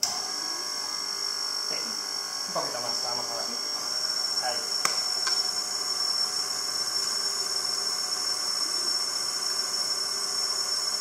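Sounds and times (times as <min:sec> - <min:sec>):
stand mixer motor whine: 0:00.0 - 0:11.0.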